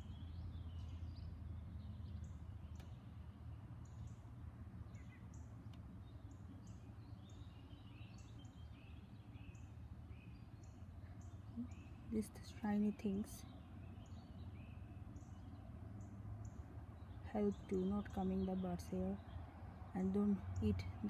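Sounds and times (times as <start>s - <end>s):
low steady hum: 0.0s - 21.0s
small birds chirping: 0.0s - 21.0s.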